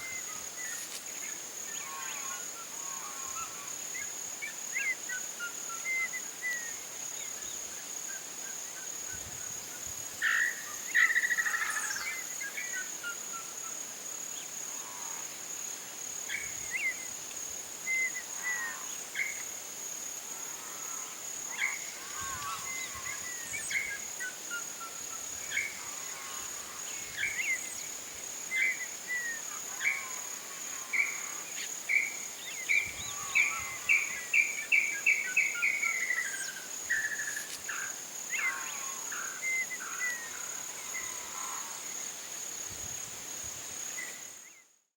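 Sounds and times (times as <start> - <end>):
high-pitched insect trill: 0.0 - 44.6.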